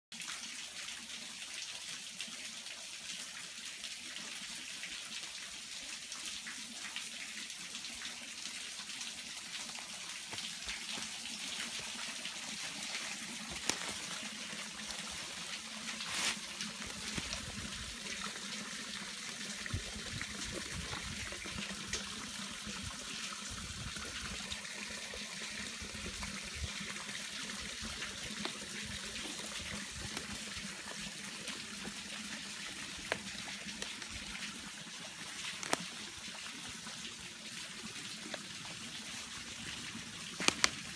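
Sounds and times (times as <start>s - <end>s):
creek water trickling: 0.2s - 40.9s.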